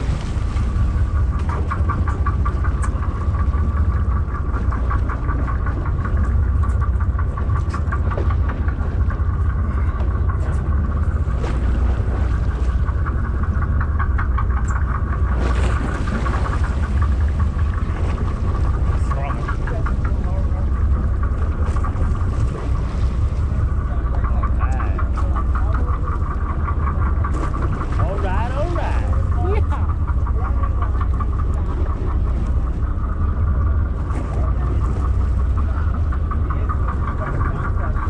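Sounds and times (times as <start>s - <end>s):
boat engines rumbling: 0.0s - 38.0s
pulsing whine: 0.0s - 38.0s.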